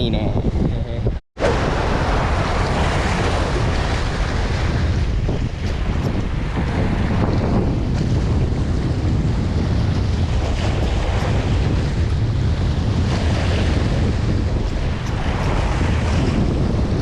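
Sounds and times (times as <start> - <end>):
wind rumbling on microphone: 0.0 - 17.0
waves washing: 1.4 - 17.0.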